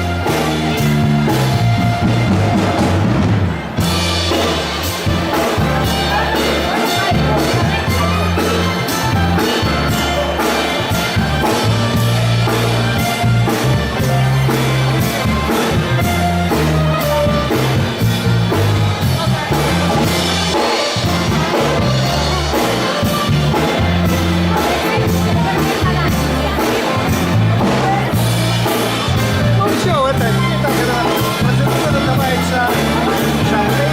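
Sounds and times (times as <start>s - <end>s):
party music with drum beat: 0.0s - 33.9s.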